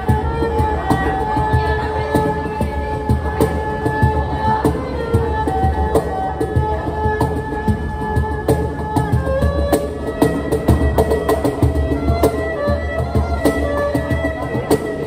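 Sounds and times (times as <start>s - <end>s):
bowed string melody: 0.0s - 15.0s
cajon beat: 0.0s - 15.0s.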